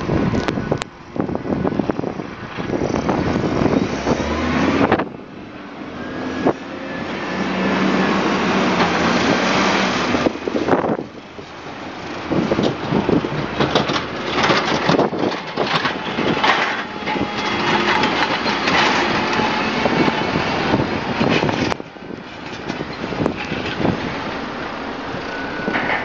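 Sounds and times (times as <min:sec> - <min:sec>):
wheel loader working: 0:00.0 - 0:26.0.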